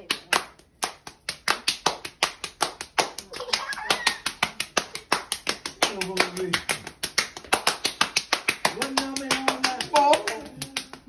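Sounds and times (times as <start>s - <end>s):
sharp hand claps: 0.0s - 11.0s.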